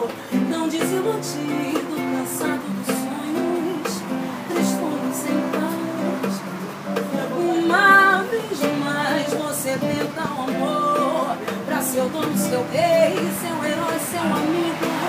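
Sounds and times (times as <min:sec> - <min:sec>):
acoustic guitar samba: 0:00.0 - 0:15.0
person singing: 0:00.0 - 0:15.0.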